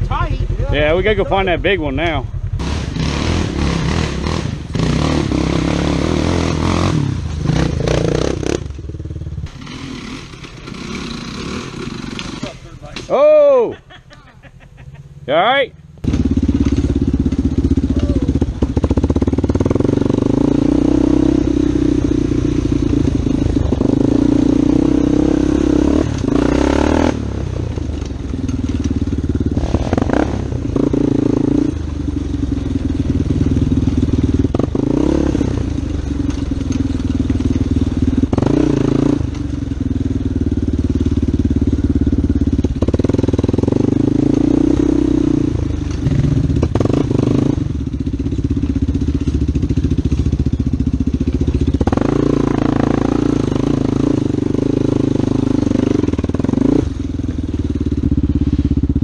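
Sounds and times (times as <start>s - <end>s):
atv engine revving: 0.0s - 13.8s, 15.0s - 59.0s.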